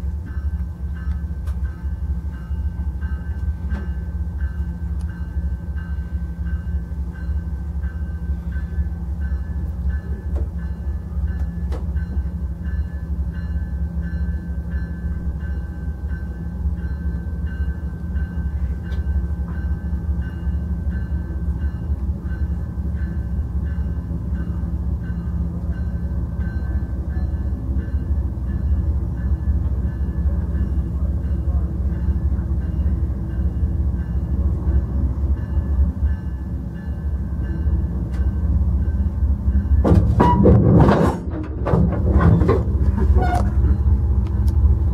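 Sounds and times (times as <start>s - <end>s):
locomotive bell ringing: 0.0s - 40.6s, 42.0s - 44.9s
diesel locomotive rumbling: 0.0s - 44.9s.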